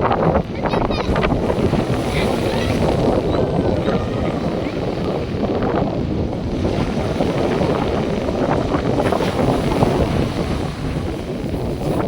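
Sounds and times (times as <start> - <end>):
surf on beach: 0.0 - 12.0
wind buffeting microphone: 0.0 - 12.0.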